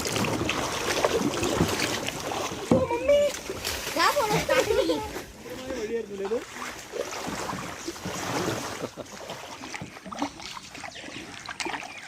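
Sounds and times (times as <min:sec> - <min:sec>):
paddles splashing in water: 0:00.0 - 0:12.0.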